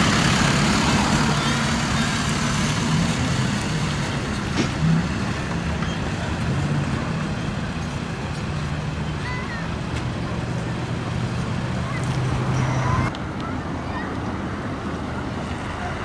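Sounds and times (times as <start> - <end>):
diesel truck engine pulling away: 0.0 - 13.4.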